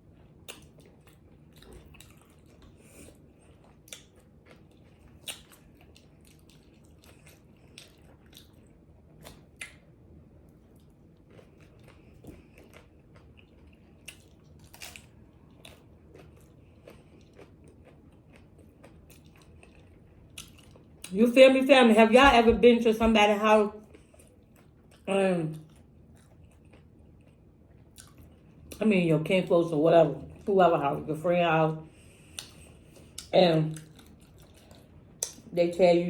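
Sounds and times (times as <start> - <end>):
close-up chewing with crunches: 0.0 - 21.2, 23.8 - 28.8, 31.9 - 35.5.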